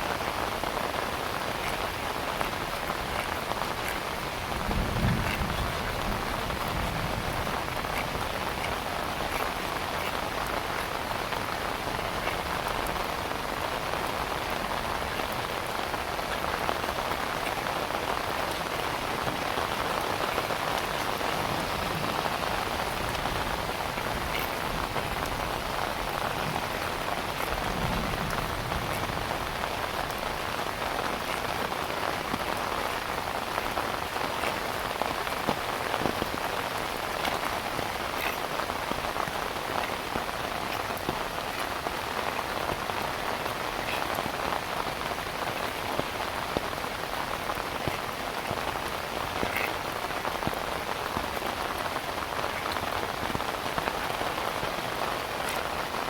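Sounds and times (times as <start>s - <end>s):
heavy rain falling: 0.0s - 56.0s
raindrops ticking on surfaces: 0.0s - 56.0s.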